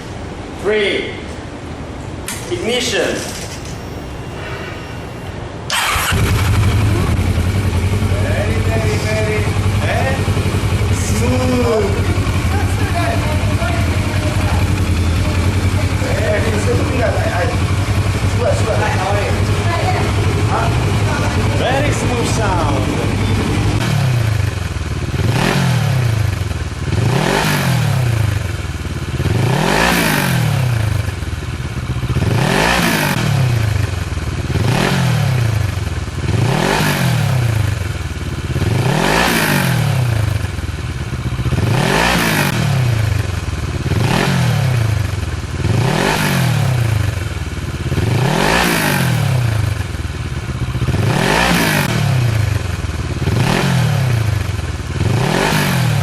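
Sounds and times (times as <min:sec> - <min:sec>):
motorcycle engine revving: 0:05.7 - 0:56.0.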